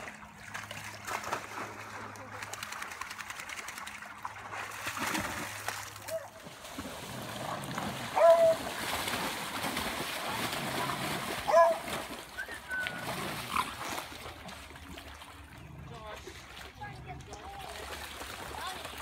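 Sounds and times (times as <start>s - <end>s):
dogs splashing in water: 0.0s - 19.0s.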